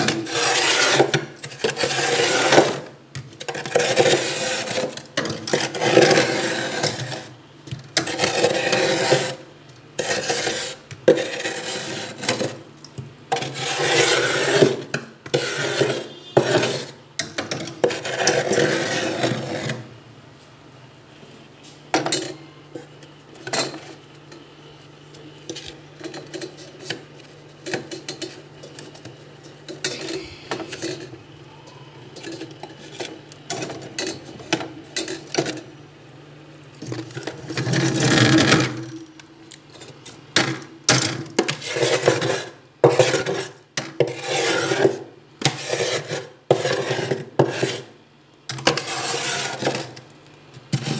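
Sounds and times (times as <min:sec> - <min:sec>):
metal spoon scraping frost: 0:00.0 - 0:12.7, 0:13.3 - 0:19.9, 0:21.9 - 0:35.7, 0:41.3 - 0:50.1, 0:50.7 - 0:50.9.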